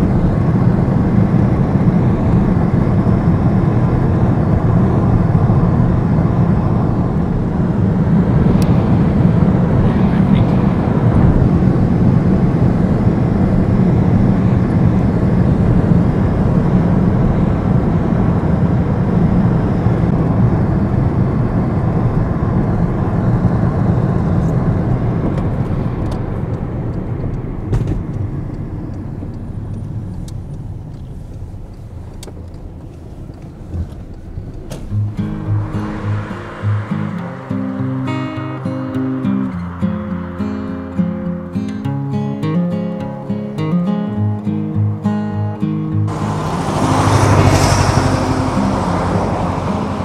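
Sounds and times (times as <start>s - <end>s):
car road noise rumble: 0.0s - 50.0s.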